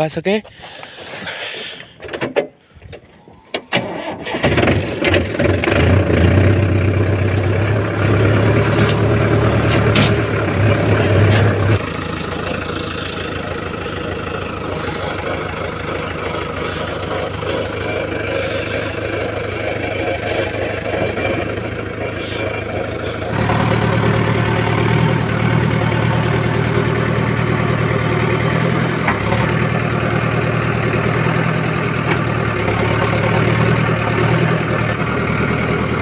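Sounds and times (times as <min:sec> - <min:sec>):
tractor diesel engine running: 0:00.3 - 0:36.0
diesel engine idling: 0:05.2 - 0:36.0.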